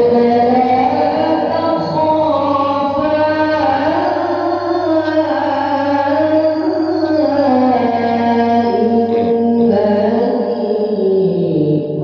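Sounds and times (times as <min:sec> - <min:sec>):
boy reciting melodically: 0:00.0 - 0:12.0.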